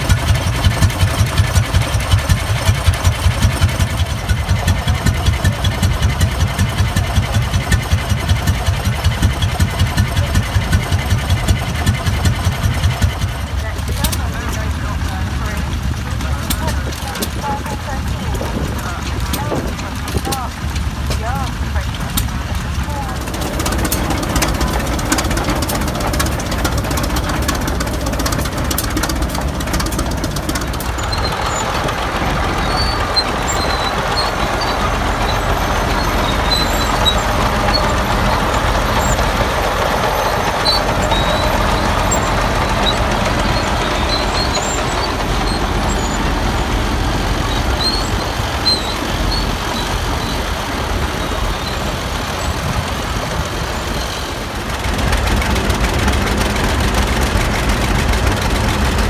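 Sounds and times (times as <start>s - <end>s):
tractor engines rumbling: 0.0s - 59.0s.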